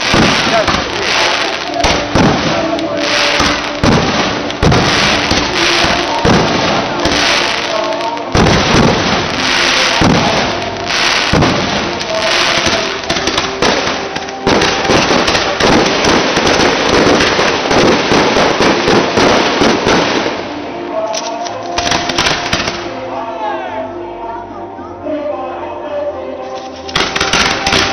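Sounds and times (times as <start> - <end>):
fireworks bangs and crackle: 0.0 - 20.6, 21.7 - 23.0, 26.9 - 27.9.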